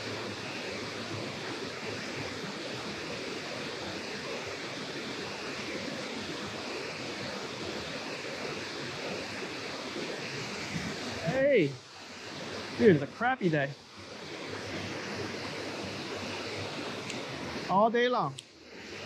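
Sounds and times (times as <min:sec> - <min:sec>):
water pouring over dam spillway: 0:00.0 - 0:19.0.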